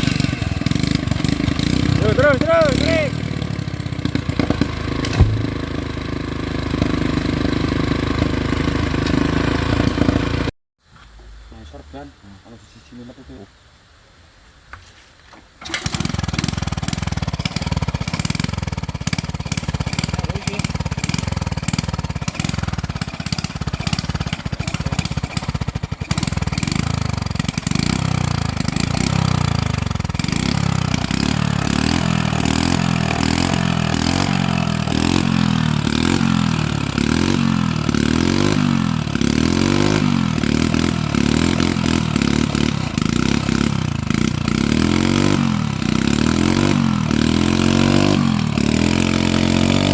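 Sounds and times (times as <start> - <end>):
small petrol engine revving: 0.0 - 10.5, 15.6 - 49.9.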